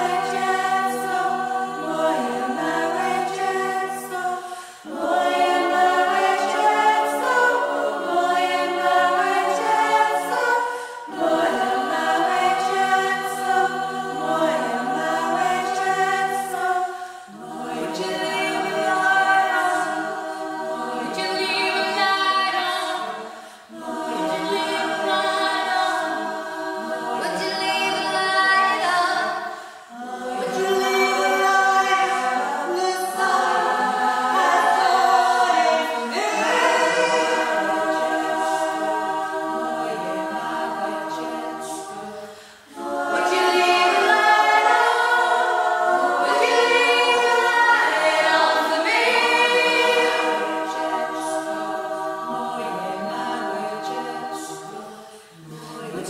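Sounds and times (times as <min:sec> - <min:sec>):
women's choir singing a cappella: 0:00.0 - 0:56.0.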